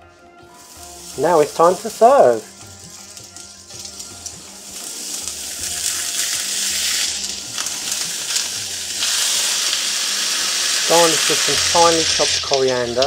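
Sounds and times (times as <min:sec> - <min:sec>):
onions sizzling on hot platter: 0:00.4 - 0:13.0.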